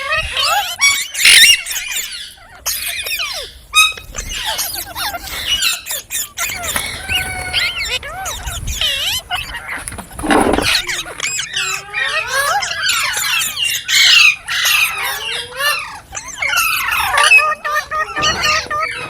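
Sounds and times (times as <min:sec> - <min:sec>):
parrot chattering and squawking: 0:00.0 - 0:19.0.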